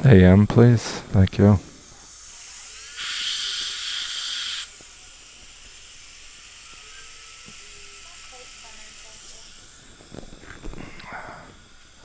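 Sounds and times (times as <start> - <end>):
faint dental equipment hiss: 0.1 - 12.0
air jet hissing: 0.8 - 12.0.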